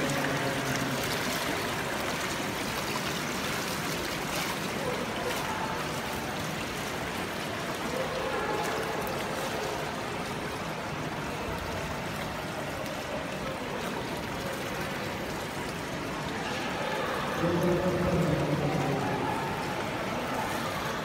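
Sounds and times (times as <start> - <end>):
pool water rushing and trickling: 0.0 - 21.0.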